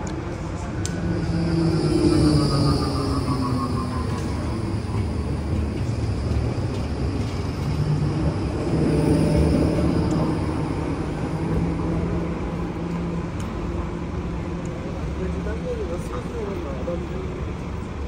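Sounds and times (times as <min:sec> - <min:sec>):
tram motor hum: 0:00.0 - 0:18.0
tram rolling rumble on rails: 0:00.0 - 0:18.0.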